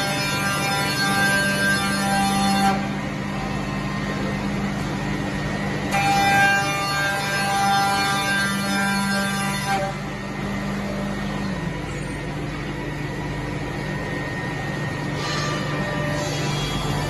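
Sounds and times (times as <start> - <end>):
high spindle whine: 0.0 - 17.0
milling machine hum: 0.0 - 17.0.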